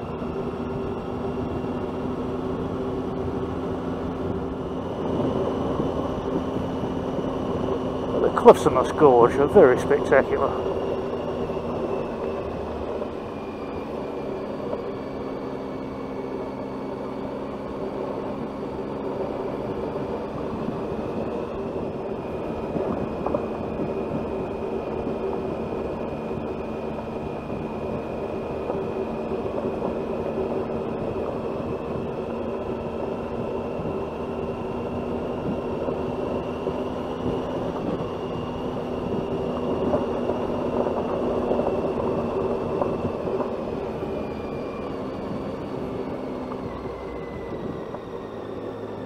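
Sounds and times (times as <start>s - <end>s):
motorcycle engine running: 0.0s - 49.0s
road and wind noise: 0.0s - 49.0s.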